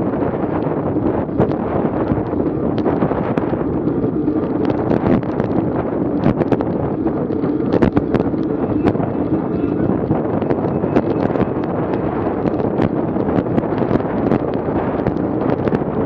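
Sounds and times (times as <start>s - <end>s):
wind buffeting microphone: 0.0s - 16.0s
sharp ticks: 0.6s - 15.9s.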